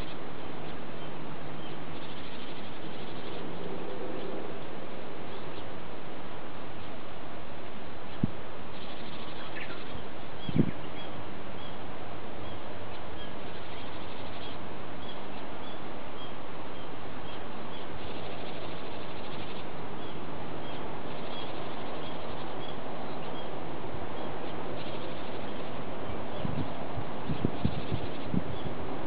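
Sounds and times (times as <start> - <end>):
steady noise hiss: 0.0 - 29.0.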